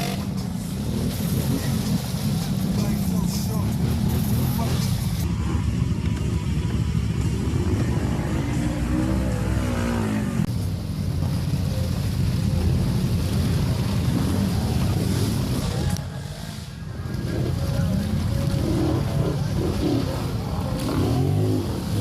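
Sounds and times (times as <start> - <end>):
off-road vehicle engines running: 0.0 - 22.0.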